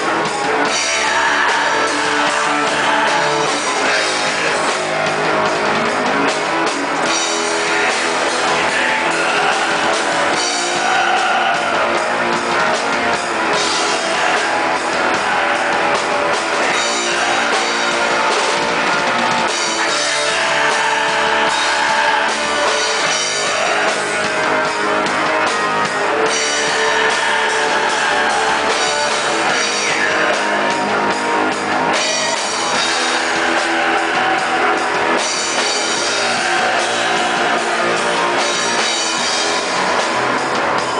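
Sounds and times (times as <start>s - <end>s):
metal band playing live: 0.0s - 40.9s.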